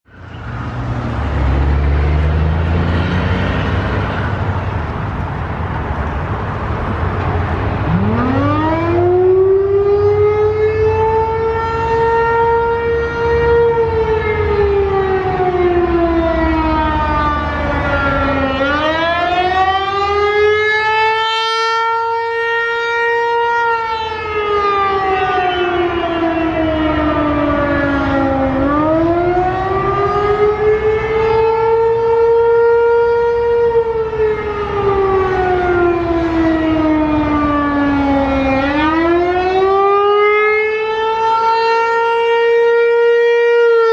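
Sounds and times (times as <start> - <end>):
low traffic rumble: 0.0 - 43.9
warning siren wailing: 0.1 - 43.9.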